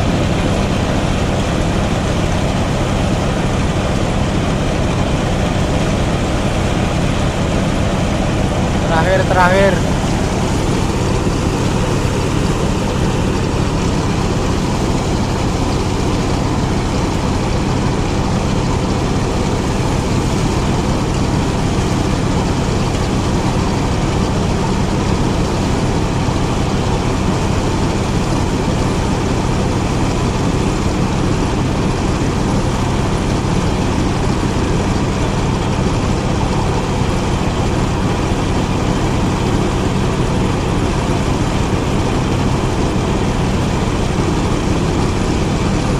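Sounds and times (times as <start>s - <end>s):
engine drone: 0.0s - 45.9s
threshing drum rattling: 0.0s - 45.9s.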